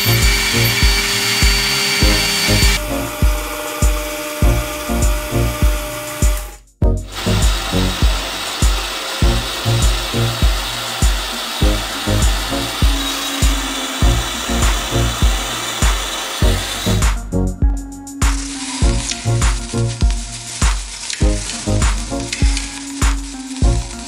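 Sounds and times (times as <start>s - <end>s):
music with low beat: 0.0s - 24.0s.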